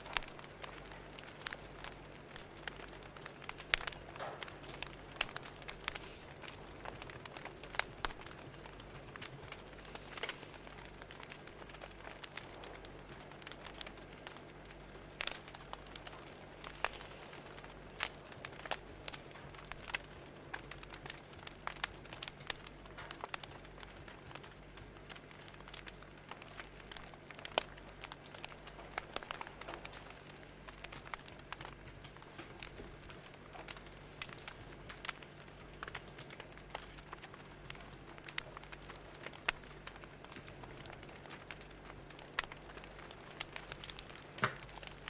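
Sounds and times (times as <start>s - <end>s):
fire crackling and popping: 0.0s - 45.0s
steady low hum: 0.0s - 45.0s.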